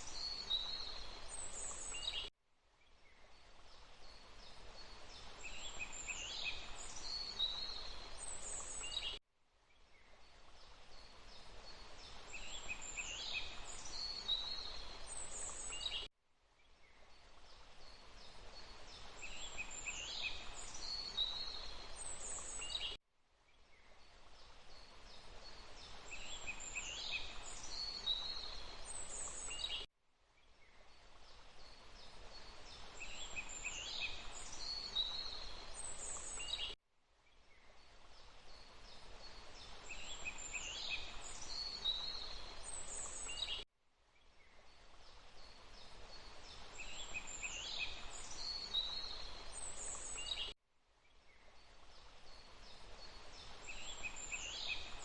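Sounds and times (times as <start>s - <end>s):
rushing water: 0.0s - 2.2s, 3.3s - 9.1s, 10.2s - 16.0s, 17.0s - 22.9s, 24.0s - 29.8s, 30.8s - 36.8s, 37.6s - 43.6s, 44.6s - 50.4s, 51.6s - 55.0s.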